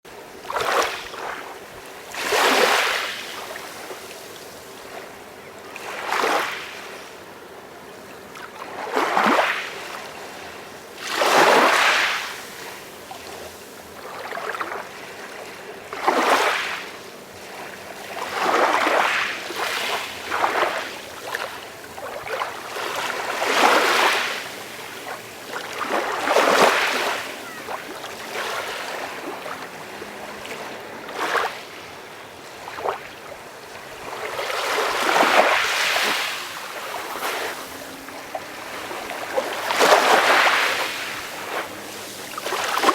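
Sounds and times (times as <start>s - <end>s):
sea waves breaking: 0.3s - 42.9s.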